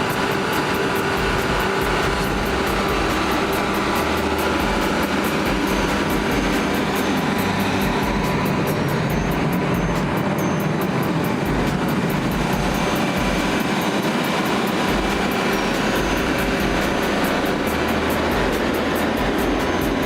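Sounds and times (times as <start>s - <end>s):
diesel generator running: 0.0s - 20.0s.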